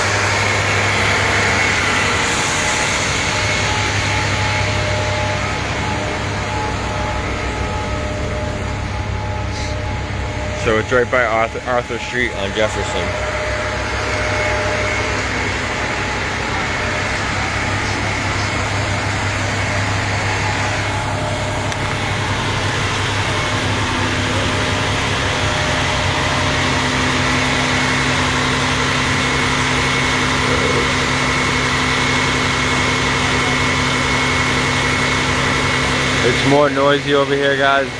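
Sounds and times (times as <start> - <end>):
vehicle engines idling: 0.0 - 37.9.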